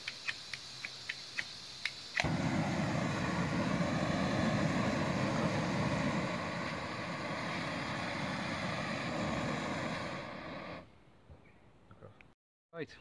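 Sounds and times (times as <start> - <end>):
camping stove burning with a hiss: 0.0 - 10.9.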